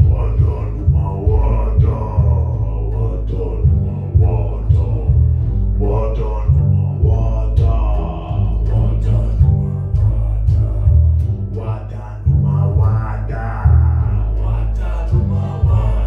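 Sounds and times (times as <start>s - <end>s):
double bass deep notes: 0.0s - 16.0s
man singing: 0.0s - 16.0s
plucked long-necked string instrument: 0.0s - 16.0s.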